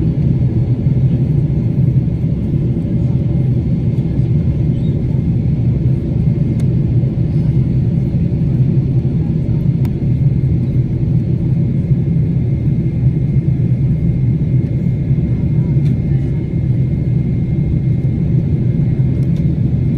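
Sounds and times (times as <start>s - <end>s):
jet engine cabin rumble: 0.0s - 19.9s.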